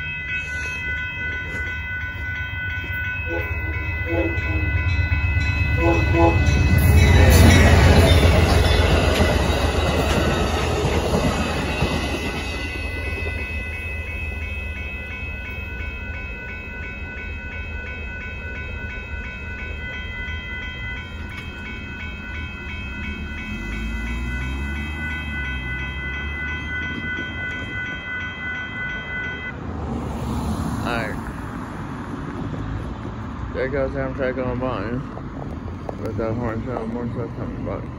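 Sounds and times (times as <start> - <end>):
crossing warning bell ringing: 0.0 - 30.2, 33.5 - 37.9
passenger train rumble: 0.0 - 37.9.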